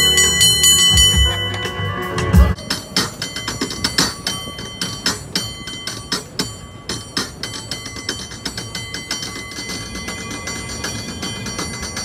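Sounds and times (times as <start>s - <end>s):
cable car bell ringing: 0.0s - 12.0s.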